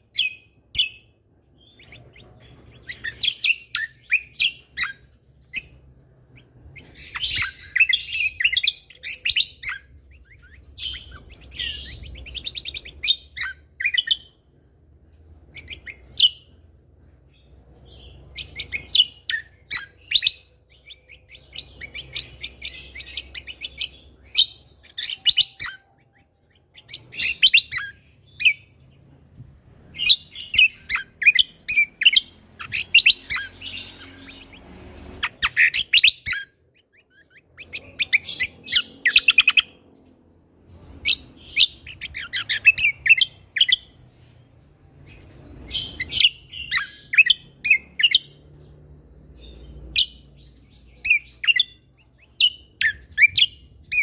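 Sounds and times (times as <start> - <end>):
songbird chirping rapidly: 0.0 - 54.0.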